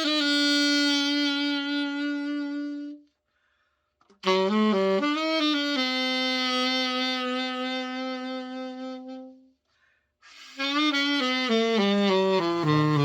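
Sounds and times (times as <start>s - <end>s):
saxophone melody: 0.0s - 3.2s, 4.1s - 9.6s, 10.2s - 13.0s.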